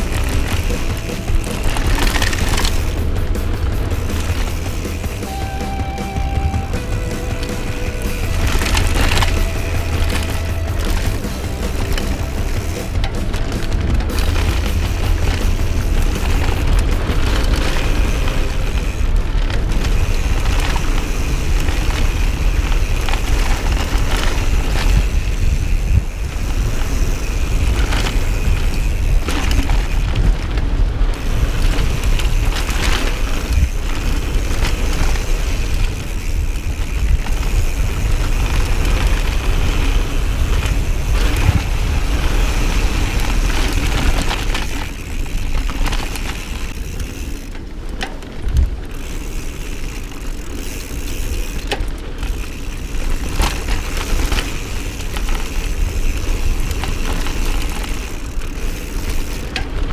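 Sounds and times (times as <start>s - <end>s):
bike knocking and rattling: 0.0s - 59.9s
bike tyres rumbling on dirt: 0.0s - 59.9s.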